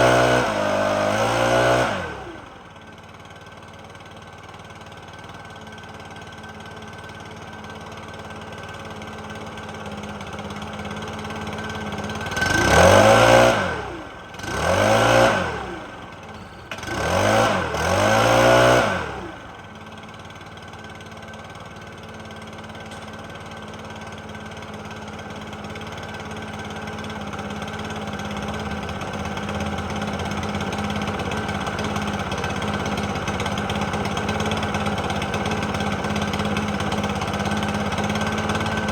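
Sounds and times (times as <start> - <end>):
leaf blower engine idling and revving: 0.0 - 38.9.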